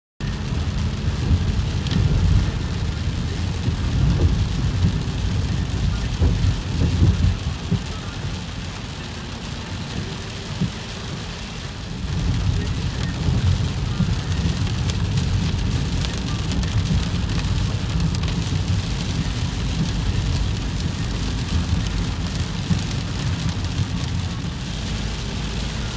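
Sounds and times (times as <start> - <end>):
rain pattering on windshield: 0.2 - 25.9
tyres and engine rumbling: 0.2 - 25.9.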